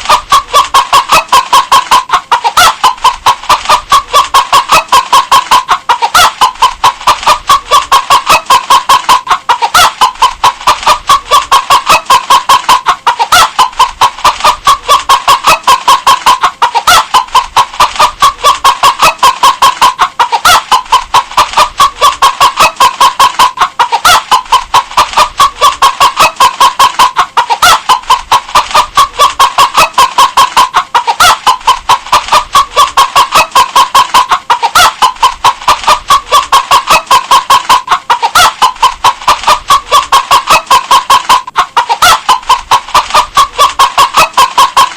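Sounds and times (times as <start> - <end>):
hen clucking: 0.0 - 44.9.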